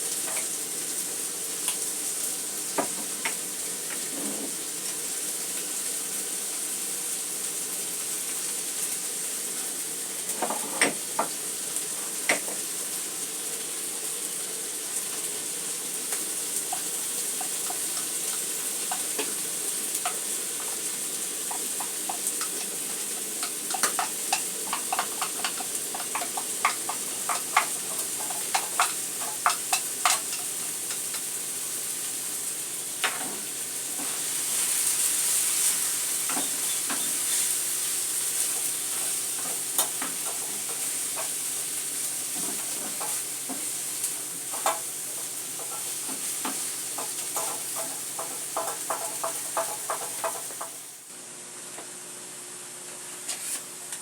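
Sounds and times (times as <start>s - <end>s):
food sizzling in frying pan: 0.0s - 51.2s.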